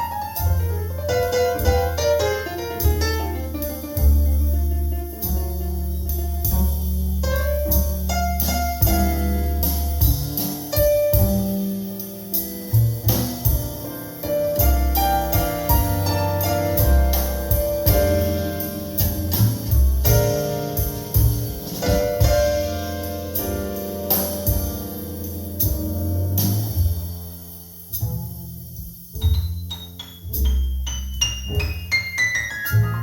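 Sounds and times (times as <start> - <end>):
low bass notes: 0.0 - 33.0
piano chords and melody: 0.0 - 33.0.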